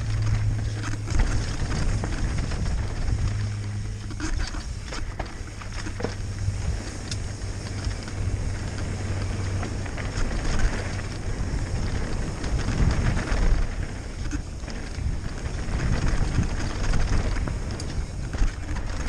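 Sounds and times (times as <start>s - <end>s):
bike rattles and clicks: 0.0s - 19.0s
bike tyres crunching over gravel: 0.0s - 19.0s
wind rumble on microphone: 0.0s - 19.0s.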